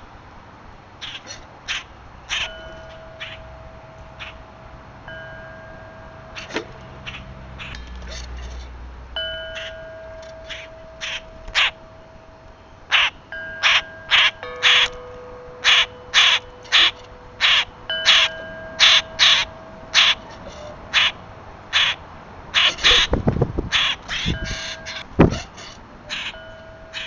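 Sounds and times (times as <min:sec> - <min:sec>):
bird cawing: 0:01.0 - 0:04.6, 0:05.6 - 0:08.7, 0:09.5 - 0:27.0.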